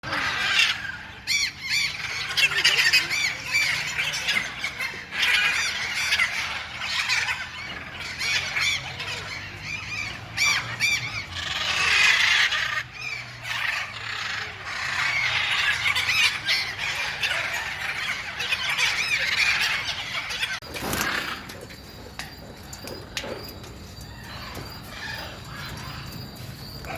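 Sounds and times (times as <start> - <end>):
birds squawking and chattering: 0.0 - 26.9.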